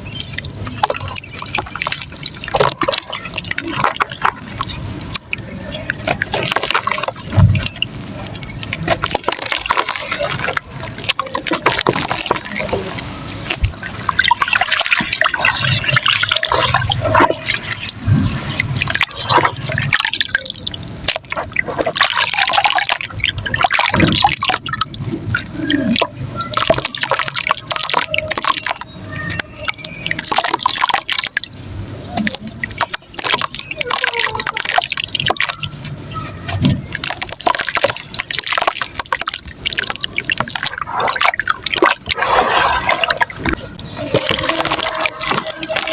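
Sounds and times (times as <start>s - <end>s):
wet mud crackling: 0.0s - 45.9s.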